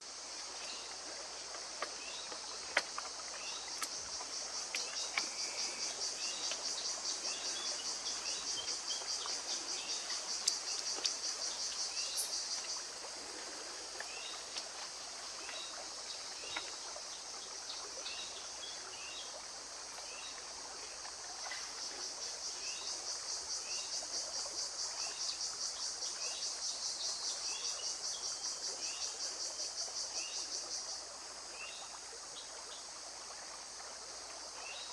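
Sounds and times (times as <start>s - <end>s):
insect chorus pulsing buzz: 0.0s - 34.9s.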